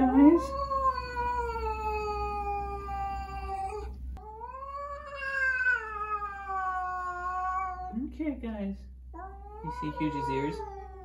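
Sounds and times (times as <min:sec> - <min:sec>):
cat yowling: 0:00.0 - 0:08.0, 0:09.2 - 0:11.0.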